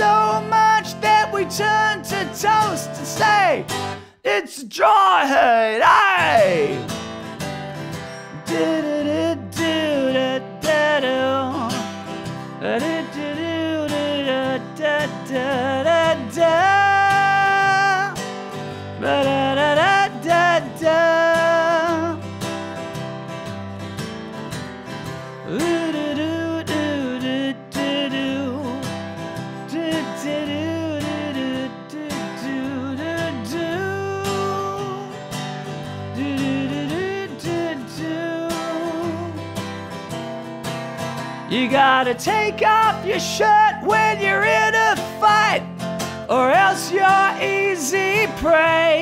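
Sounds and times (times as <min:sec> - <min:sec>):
strummed acoustic guitar: 0:00.0 - 0:04.2, 0:05.8 - 0:49.0
man singing: 0:00.0 - 0:07.0, 0:08.0 - 0:22.3, 0:25.4 - 0:35.2, 0:36.1 - 0:39.4, 0:41.5 - 0:49.0.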